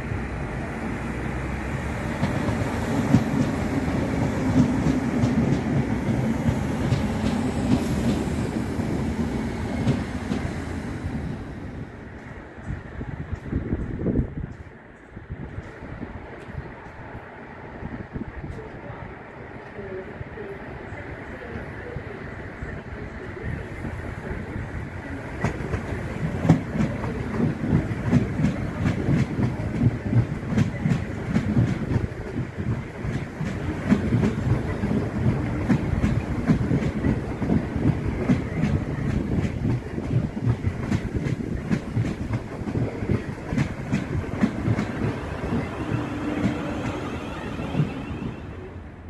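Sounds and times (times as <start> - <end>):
train running gear rumble: 0.0 - 20.0, 20.7 - 49.0.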